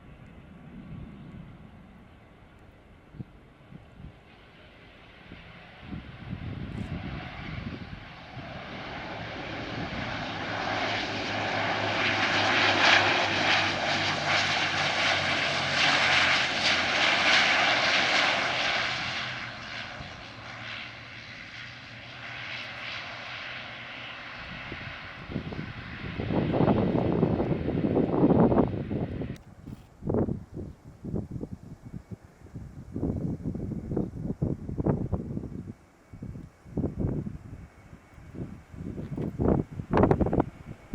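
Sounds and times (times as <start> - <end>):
airliner engine noise: 0.0 - 40.9.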